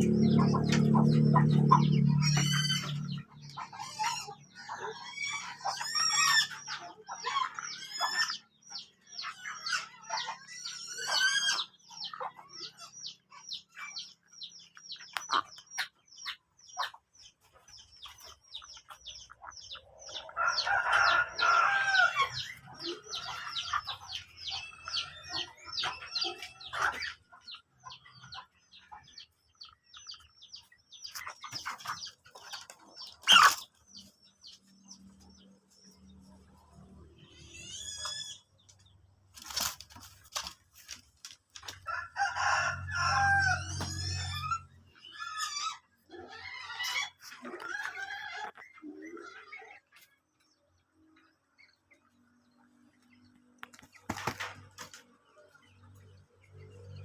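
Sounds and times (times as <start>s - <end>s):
chickens peeping and clucking: 0.0s - 57.0s.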